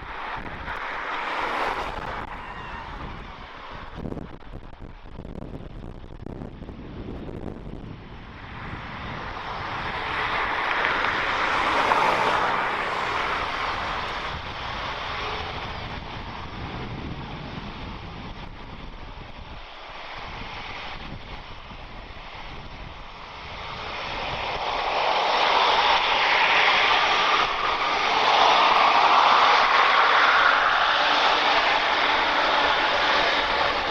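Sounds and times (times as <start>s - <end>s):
jet engines roaring at takeoff: 0.0s - 33.9s.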